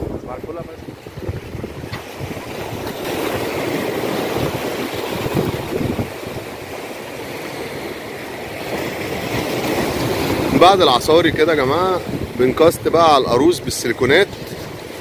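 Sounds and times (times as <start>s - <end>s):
wind on microphone: 0.0s - 6.8s, 9.2s - 15.0s
waves splashing against rocks: 0.0s - 15.0s.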